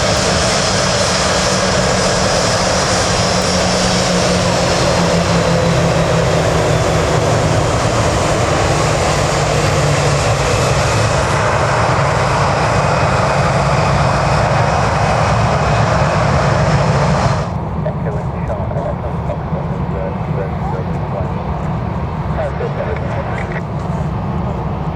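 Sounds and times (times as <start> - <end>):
faint high engine whine: 0.0 - 24.9
jet engines roaring: 0.0 - 24.9.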